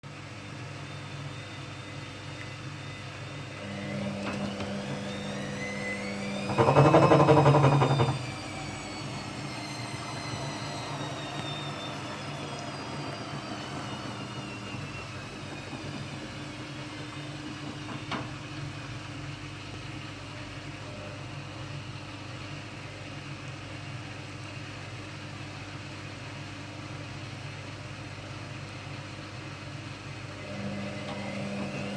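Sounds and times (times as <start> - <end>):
washing machine motor whining: 0.3 - 23.5, 26.2 - 31.9.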